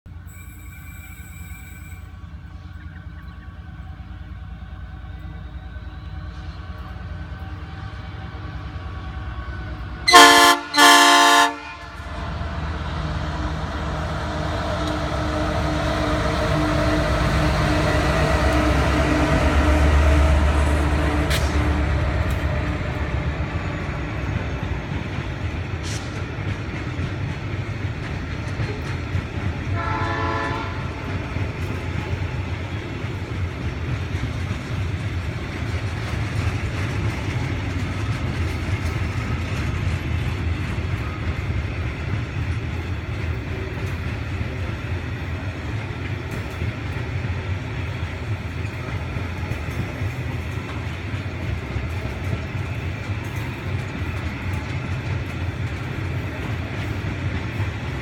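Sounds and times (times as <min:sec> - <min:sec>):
diesel locomotive passing: 0:00.1 - 0:58.0
train wheels clattering on rails: 0:06.3 - 0:58.0.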